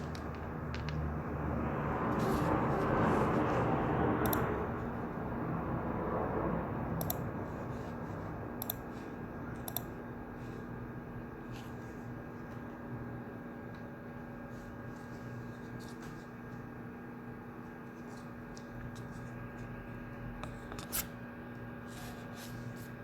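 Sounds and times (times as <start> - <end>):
ventilation hum: 0.0 - 23.0.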